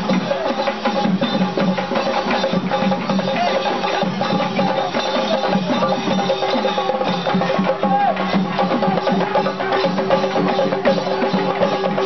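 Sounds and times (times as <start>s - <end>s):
drums playing fast rhythm: 0.0s - 12.0s.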